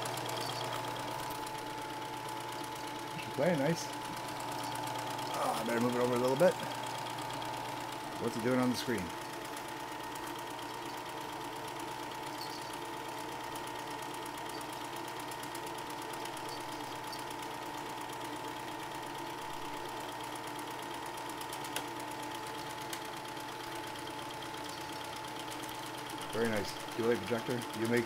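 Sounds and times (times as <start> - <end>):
film projector clattering: 0.0 - 28.0.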